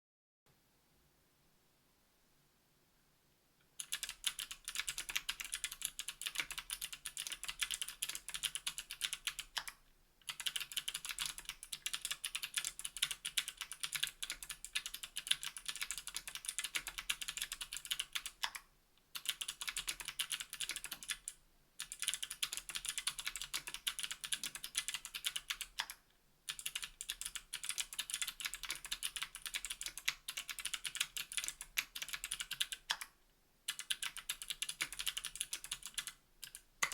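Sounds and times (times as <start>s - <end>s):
fast typing on clicky keyboard: 3.8s - 33.1s, 33.7s - 36.9s.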